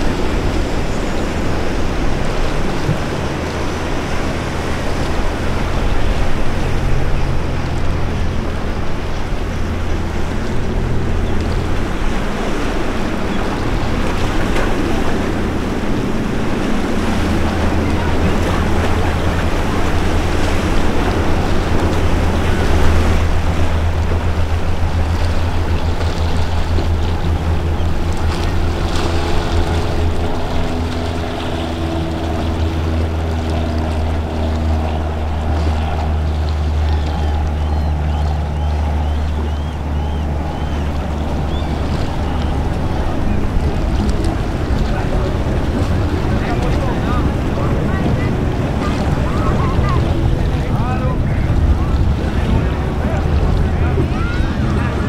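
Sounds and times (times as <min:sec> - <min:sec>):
powerboat engine droning: 0:00.0 - 0:55.0
rush of wake and surf: 0:00.0 - 0:55.0
wind buffeting microphone: 0:00.0 - 0:55.0.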